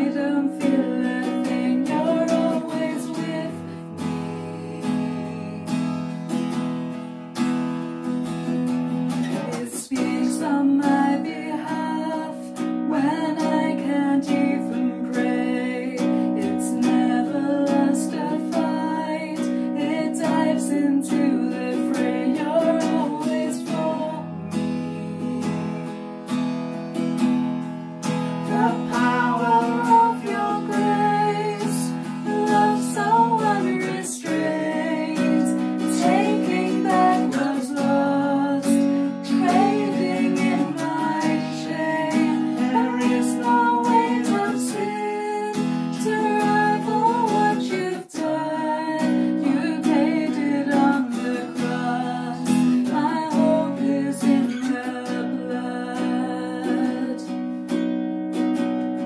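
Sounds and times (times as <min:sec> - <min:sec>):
woman singing: 0:00.0 - 0:06.1, 0:09.2 - 0:24.7, 0:28.4 - 0:57.6
strummed acoustic guitar: 0:00.0 - 0:59.0.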